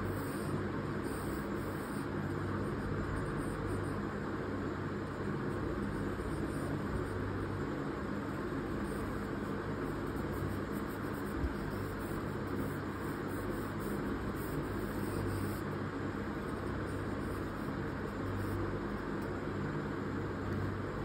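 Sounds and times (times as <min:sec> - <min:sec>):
steady low hum with hiss: 0:00.0 - 0:21.0.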